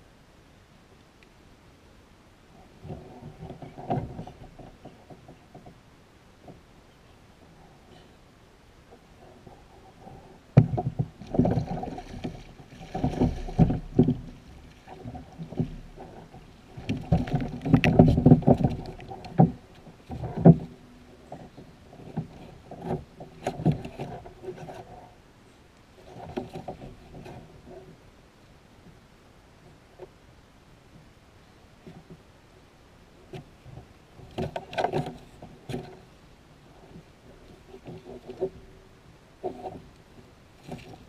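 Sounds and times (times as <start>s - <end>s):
handling noise on plastic kayak: 2.6s - 8.1s, 8.9s - 25.2s, 25.8s - 28.1s, 28.8s - 32.4s, 33.1s - 41.0s.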